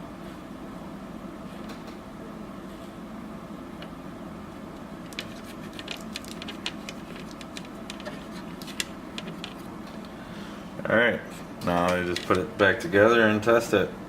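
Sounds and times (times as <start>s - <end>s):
fan hum: 0.0s - 14.0s.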